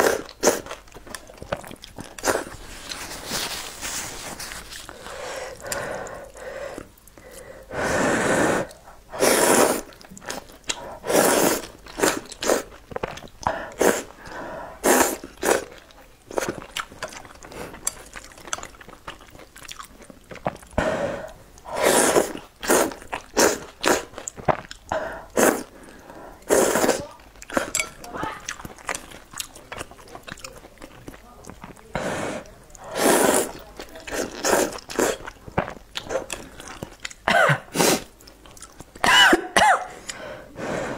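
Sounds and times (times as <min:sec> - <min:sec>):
noodle slurping: 0:00.0 - 0:06.8, 0:07.7 - 0:15.8, 0:16.4 - 0:37.2
wet chewing: 0:00.0 - 0:07.6, 0:08.6 - 0:39.1.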